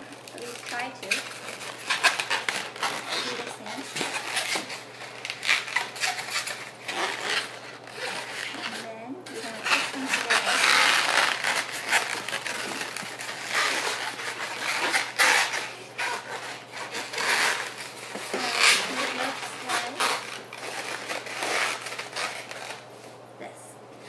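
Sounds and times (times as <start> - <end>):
latex balloon squeaks: 0.0 - 22.8
balloons rubbing and crinkling: 0.0 - 23.0.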